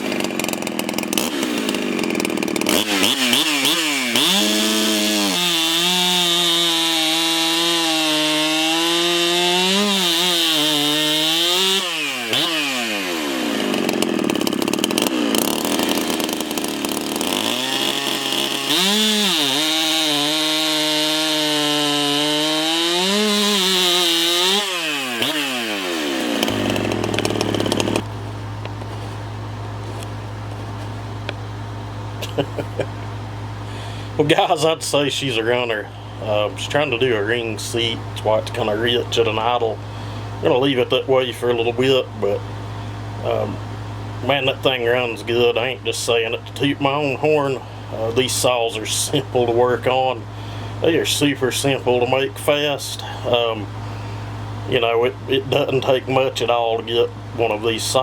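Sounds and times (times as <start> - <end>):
chainsaw revving: 0.0 - 28.2, 32.2 - 58.0
chainsaw idling: 0.0 - 58.0.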